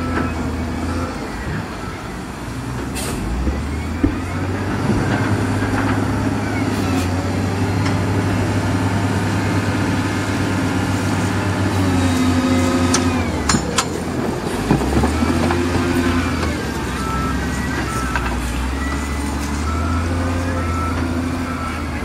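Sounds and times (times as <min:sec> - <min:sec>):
wheel loader diesel engine: 0:00.0 - 0:22.0.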